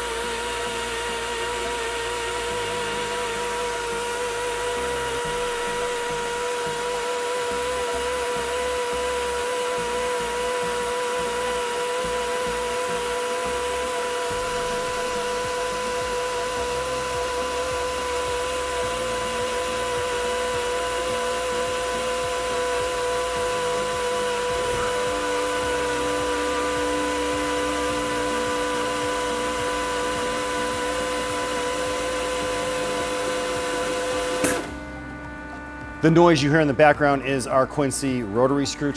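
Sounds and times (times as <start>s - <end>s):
air compressor humming: 0.0s - 38.9s
air motor whining: 0.0s - 38.9s.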